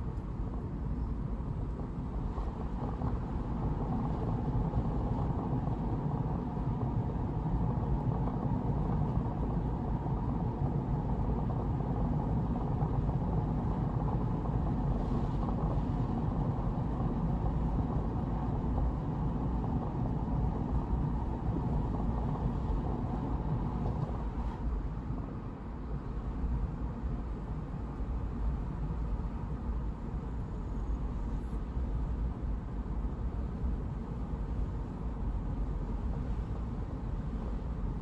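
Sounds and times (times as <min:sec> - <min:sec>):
car tyres and engine rumble: 0:00.0 - 0:38.0.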